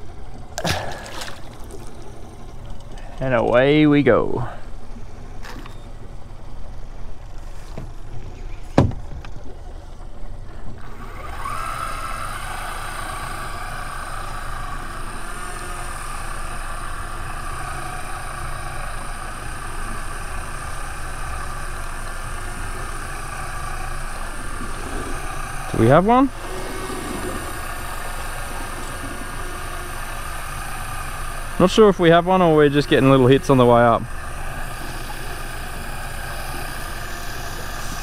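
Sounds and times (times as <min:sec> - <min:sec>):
fishing reel spool spinning: 0:00.0 - 0:08.6, 0:09.3 - 0:38.0
steady electric whine: 0:00.0 - 0:38.0.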